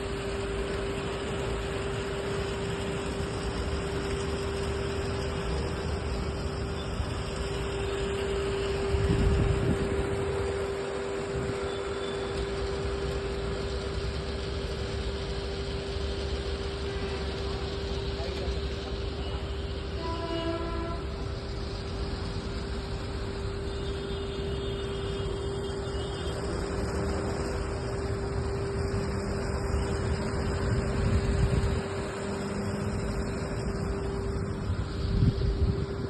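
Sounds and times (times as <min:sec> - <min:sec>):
road traffic droning hum: 0:00.0 - 0:36.0.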